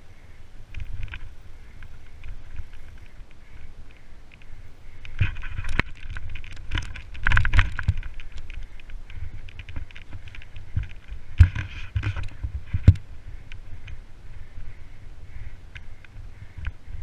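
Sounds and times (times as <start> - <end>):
tyres rumbling on dirt trail: 0.0 - 17.0
bike rattling and clattering: 0.7 - 17.0.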